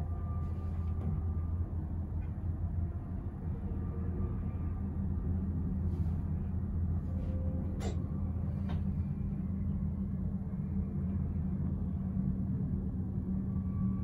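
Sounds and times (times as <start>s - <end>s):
cable car hum and rumble: 0.0s - 14.0s.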